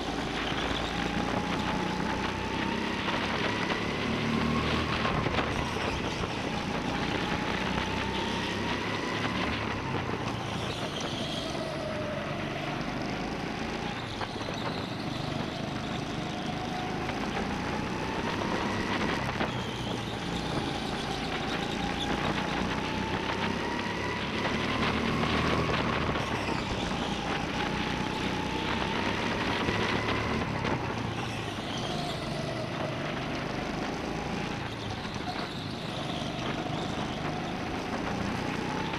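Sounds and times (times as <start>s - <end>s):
go-kart motor whining: 0.0s - 38.9s.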